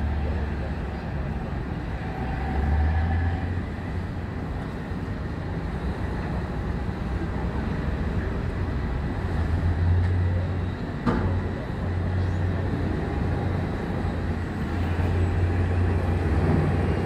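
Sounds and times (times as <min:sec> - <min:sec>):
diesel engine rumble: 0:00.0 - 0:17.0.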